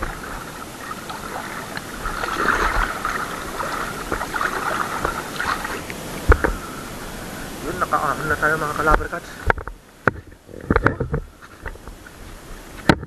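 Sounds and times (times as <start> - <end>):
sea water sloshing and splashing: 0.0 - 12.4.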